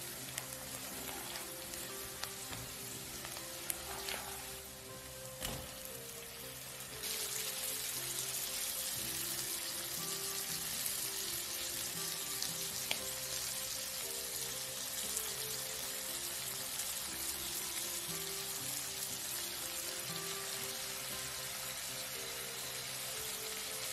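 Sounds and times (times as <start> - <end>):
shrimp sizzling in hot oil: 0.0 - 23.9.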